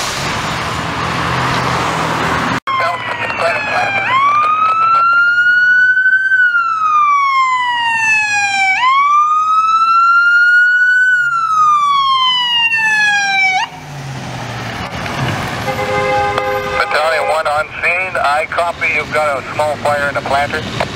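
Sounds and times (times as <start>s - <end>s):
emergency vehicle siren wailing: 0.4s - 20.9s.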